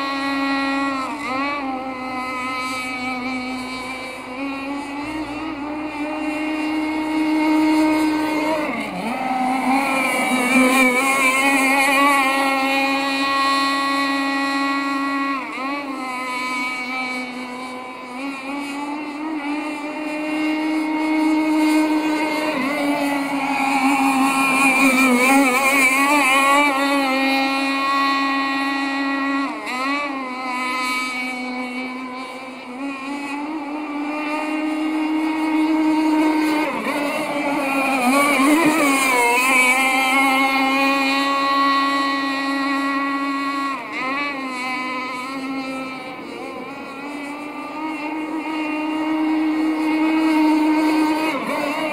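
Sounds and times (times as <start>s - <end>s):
model boat engine whine: 0.0s - 51.9s.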